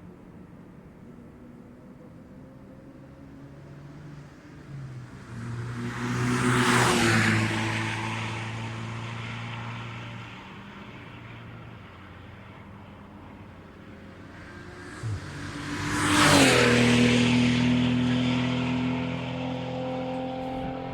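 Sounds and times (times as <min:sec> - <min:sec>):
race car passing at speed: 0:02.9 - 0:20.9.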